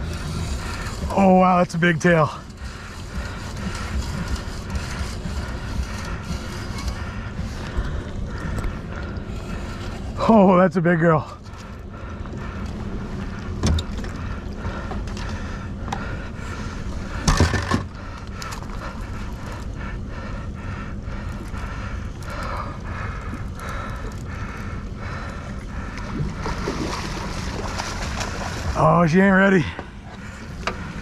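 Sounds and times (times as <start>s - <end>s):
boat motor running: 0.0s - 31.0s
water noise: 0.0s - 31.0s
wind: 0.0s - 31.0s.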